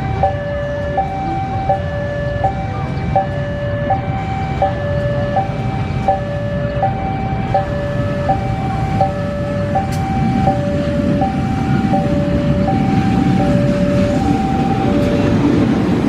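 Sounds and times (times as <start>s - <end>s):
crossing alarm two-tone chime: 0.0s - 16.0s
diesel locomotive rumble: 0.0s - 16.0s.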